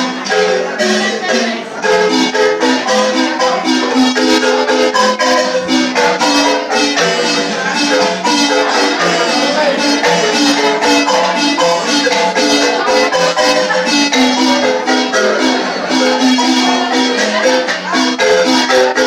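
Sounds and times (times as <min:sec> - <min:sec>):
marimba playing: 0:00.0 - 0:19.0.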